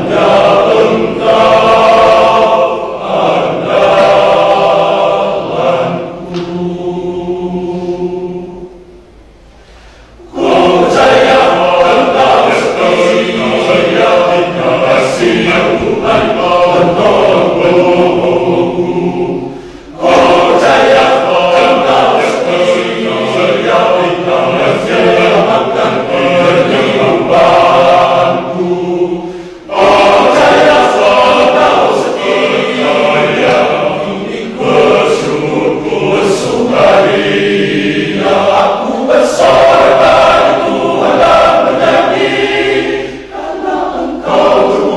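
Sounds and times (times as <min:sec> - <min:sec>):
men's choir singing: 0:00.0 - 0:09.3, 0:10.2 - 0:44.9.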